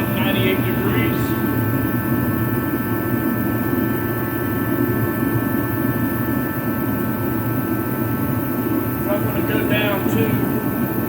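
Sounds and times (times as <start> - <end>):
heater fan and burner roaring: 0.0 - 11.0
multi-tone whine: 0.0 - 11.0.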